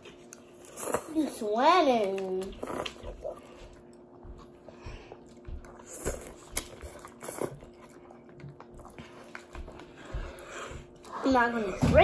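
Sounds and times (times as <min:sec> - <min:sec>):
noodles slurped and chewed: 0:00.0 - 0:11.6.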